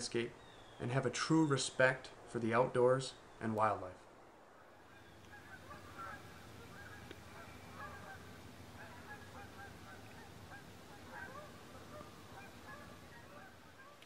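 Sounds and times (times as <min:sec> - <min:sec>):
distant birds calling: 0:00.0 - 0:14.0.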